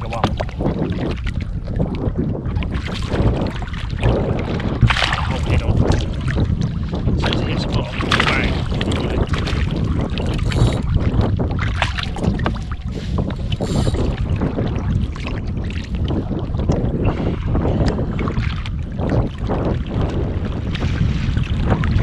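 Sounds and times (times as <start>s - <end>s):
water lapping against kayak hull: 0.0s - 22.0s
wind rumbling on microphone: 0.0s - 22.0s.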